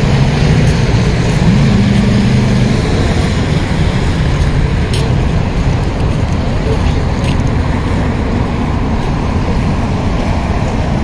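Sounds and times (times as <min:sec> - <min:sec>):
traffic rumble: 0:00.0 - 0:11.0
vehicle accelerating: 0:00.0 - 0:11.0.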